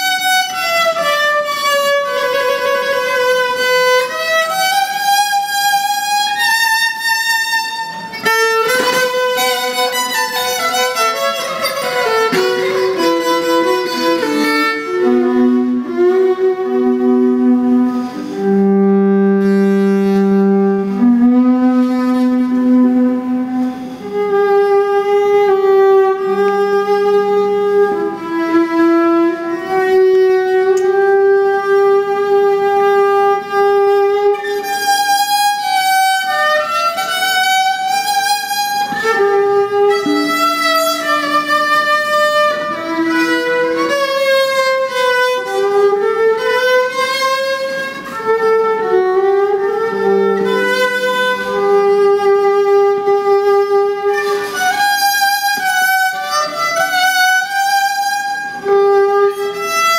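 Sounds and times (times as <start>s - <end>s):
electric violin bowed solo: 0.0s - 59.9s.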